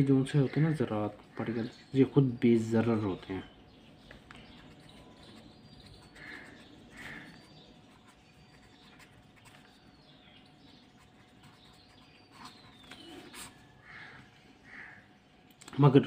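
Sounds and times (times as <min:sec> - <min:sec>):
faint bird calls: 0:00.0 - 0:15.5
faint steady hum: 0:00.0 - 0:16.0.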